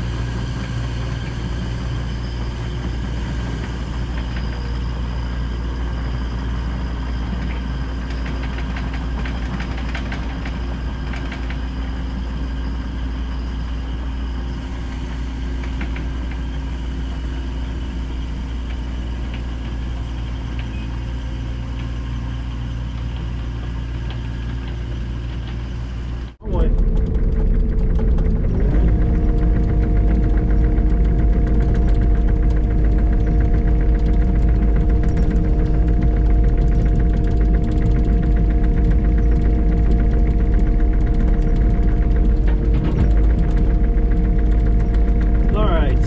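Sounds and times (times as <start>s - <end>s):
engine running steadily: 0.0s - 46.0s.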